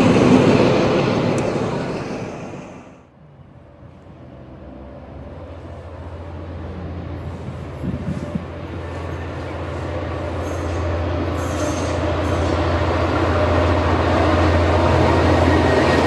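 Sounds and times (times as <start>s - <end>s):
diesel locomotive droning: 0.0s - 16.0s
rail noise: 0.0s - 16.0s.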